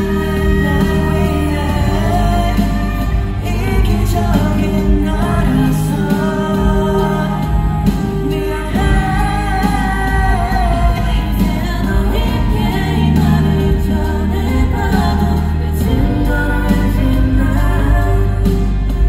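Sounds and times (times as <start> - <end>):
backing track with bass: 0.0 - 19.0
male group singing pop ballad: 0.0 - 19.0.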